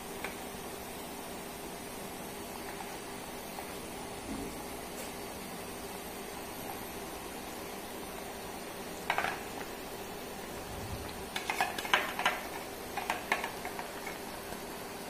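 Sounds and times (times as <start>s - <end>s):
gravy simmering in a pot: 0.0s - 15.0s.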